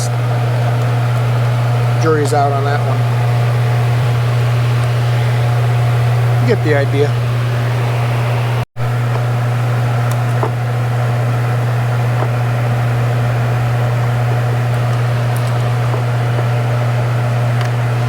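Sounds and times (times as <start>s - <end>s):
machine low hum: 0.0s - 18.0s.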